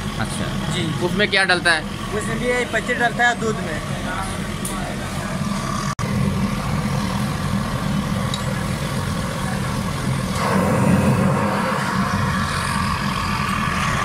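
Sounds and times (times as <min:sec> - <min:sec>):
gas stove burner roaring: 0:00.0 - 0:14.0.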